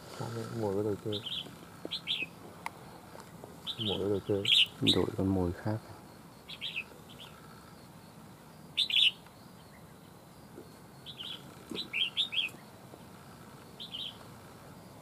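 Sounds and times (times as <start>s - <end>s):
birds singing chirpy whistled notes: 0.0s - 15.0s.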